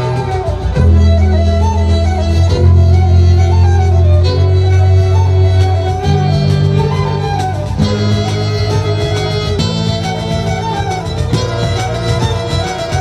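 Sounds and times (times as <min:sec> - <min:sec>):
fiddles: 0:00.0 - 0:13.0
hand drums keeping beat: 0:00.0 - 0:13.0
saxophones: 0:00.0 - 0:13.0.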